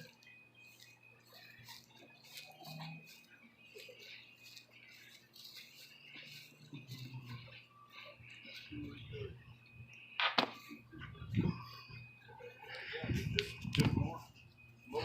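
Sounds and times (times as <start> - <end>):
crackling and rustling of damp soil: 0.0 - 15.0.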